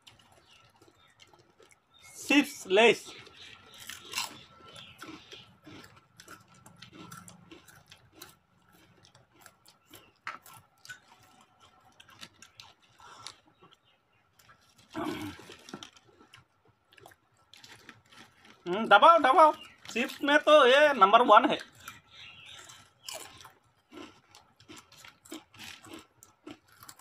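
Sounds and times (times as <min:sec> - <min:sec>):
people crunching crisp snacks: 0:00.0 - 0:27.0.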